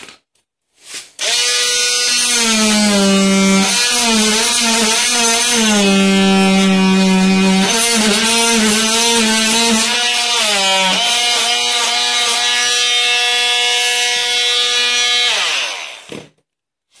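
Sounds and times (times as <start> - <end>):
multi-tool buzzing cutting wood: 1.2 - 16.3.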